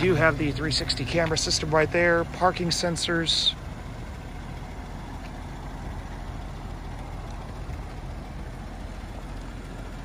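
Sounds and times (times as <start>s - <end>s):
low outdoor ambient rumble: 0.0s - 10.0s.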